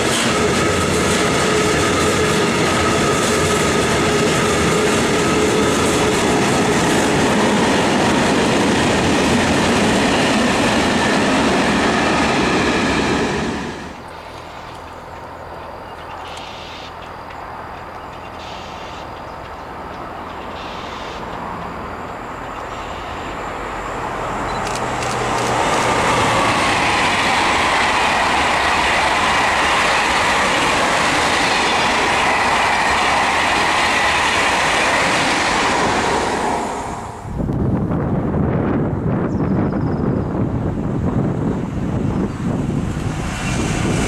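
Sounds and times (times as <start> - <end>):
high-speed train passing: 0.0 - 44.0.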